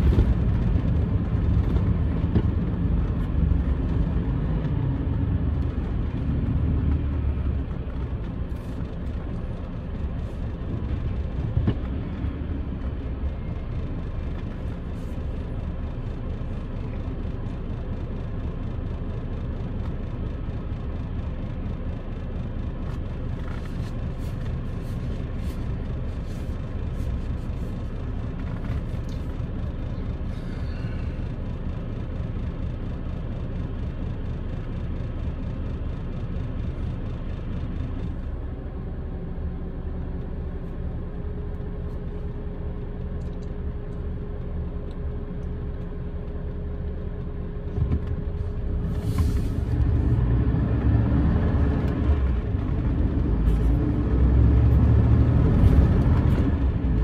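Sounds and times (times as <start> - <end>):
road noise: 0.0 - 57.0
vehicle engine: 0.0 - 57.0.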